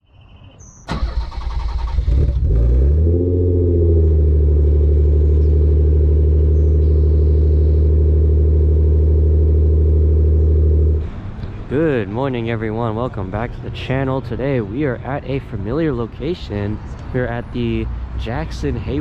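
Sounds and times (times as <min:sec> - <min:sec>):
car engine starting and idling: 0:00.9 - 0:19.0.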